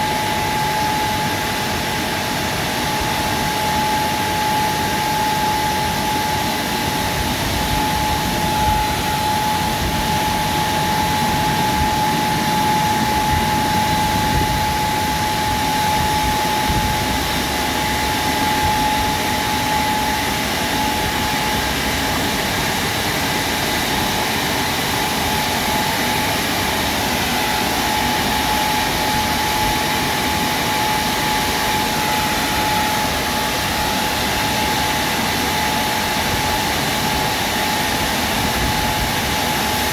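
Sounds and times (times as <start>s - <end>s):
car wash machine running: 0.0s - 39.9s
constant high whine: 0.0s - 39.9s.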